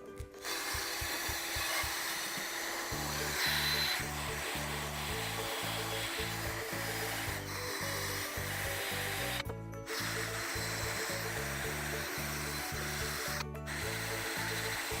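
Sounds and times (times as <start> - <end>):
background music with beat: 0.0 - 15.0
power drill scouring metal: 0.0 - 15.0.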